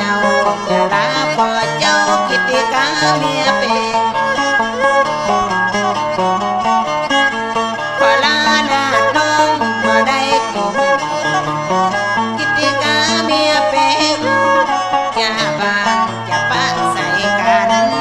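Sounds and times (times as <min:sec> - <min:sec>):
bowed and plucked strings: 0:00.0 - 0:18.0.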